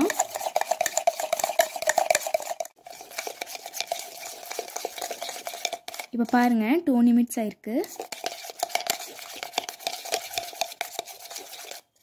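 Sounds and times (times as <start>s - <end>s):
utensil clinking in a mug: 0.0s - 6.1s, 7.9s - 11.8s.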